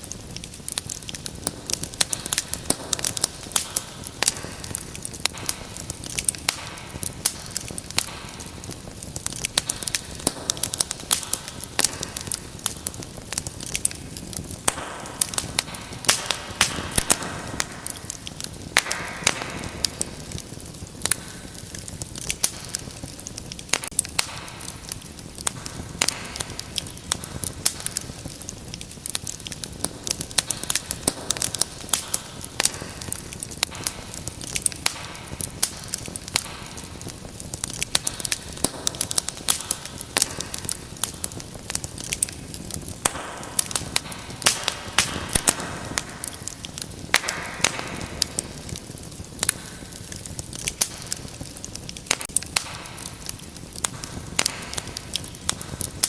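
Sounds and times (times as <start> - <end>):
fire crackling with pops: 0.0 - 56.0.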